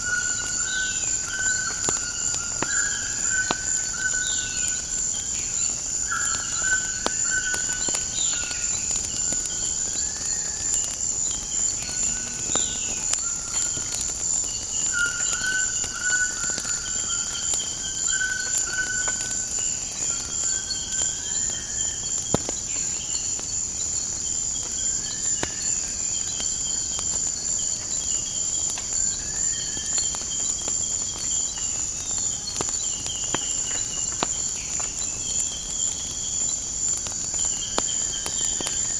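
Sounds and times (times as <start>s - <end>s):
high-pitched insect chorus: 0.0s - 38.9s
firewood crackling pops: 0.1s - 20.8s, 21.4s - 22.7s, 25.4s - 38.9s.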